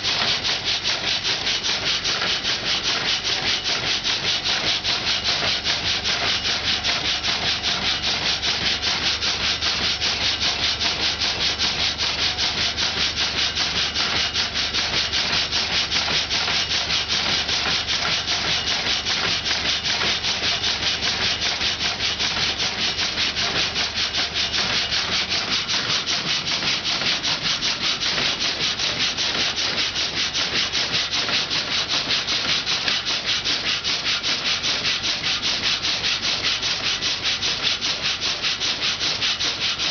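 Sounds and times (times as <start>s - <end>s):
saw cutting a log: 0.0s - 39.9s.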